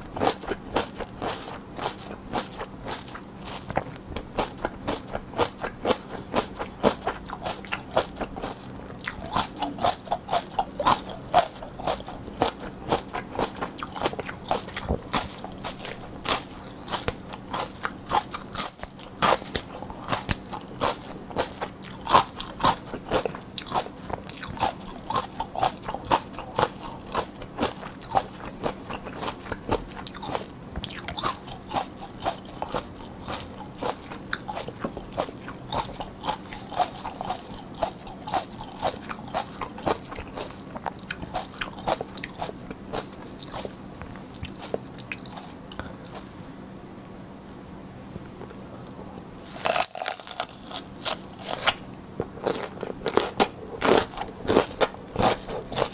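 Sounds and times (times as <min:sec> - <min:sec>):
crunching and chewing peppers: 0:00.0 - 0:46.3, 0:48.4 - 0:55.9.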